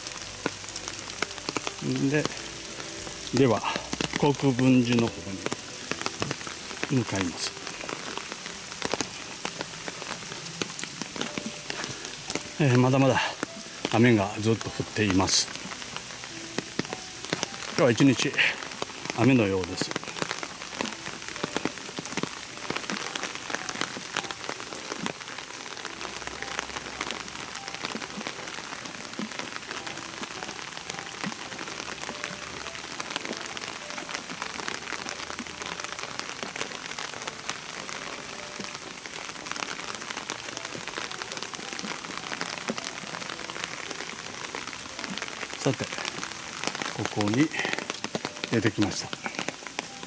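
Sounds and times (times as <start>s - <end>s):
raindrops ticking close by: 0.0s - 50.0s
steady rain falling: 0.0s - 50.0s.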